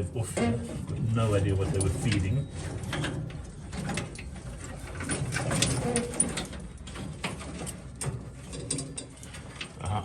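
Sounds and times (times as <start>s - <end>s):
wiring clicks and rustles: 0.0s - 10.0s.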